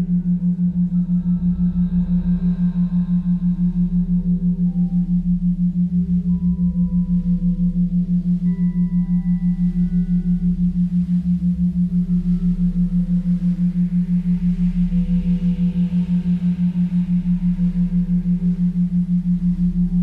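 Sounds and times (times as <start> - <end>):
low pulsing drone: 0.0 - 20.0.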